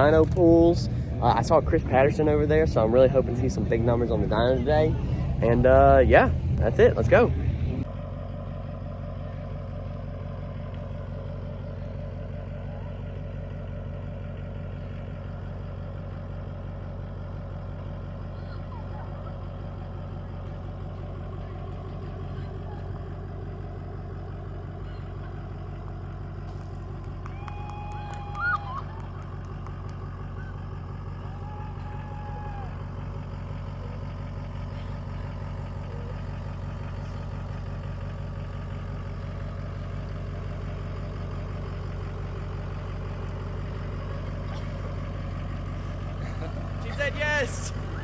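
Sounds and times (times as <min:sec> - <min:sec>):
diesel truck engine idling: 0:00.0 - 0:48.0.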